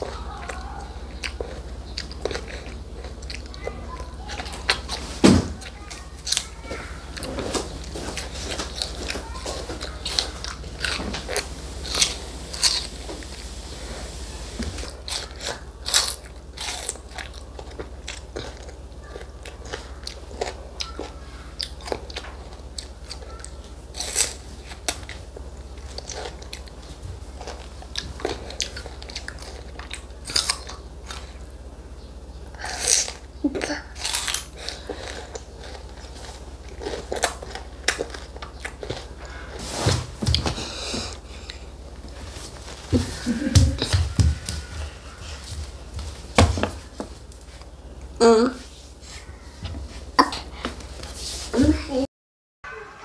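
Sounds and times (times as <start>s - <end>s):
child chewing crisp melon: 0.0s - 51.6s.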